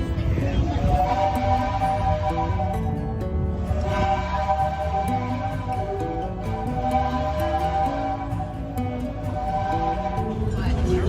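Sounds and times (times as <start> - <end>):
gentle plucked guitar music: 0.0 - 11.0.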